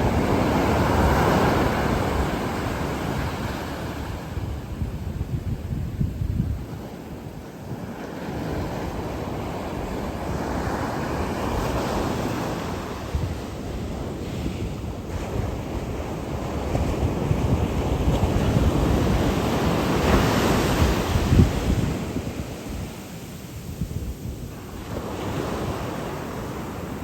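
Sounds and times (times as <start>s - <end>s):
sea waves breaking on shore: 0.0s - 5.4s, 6.6s - 27.0s
wind buffeting microphone: 0.0s - 27.0s.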